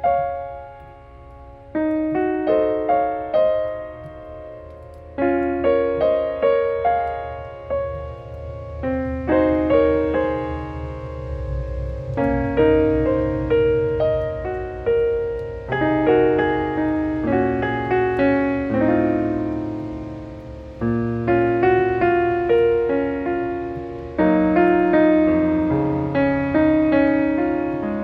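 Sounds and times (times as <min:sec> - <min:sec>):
gentle piano chords: 0:00.0 - 0:28.0
low hum: 0:00.0 - 0:28.0.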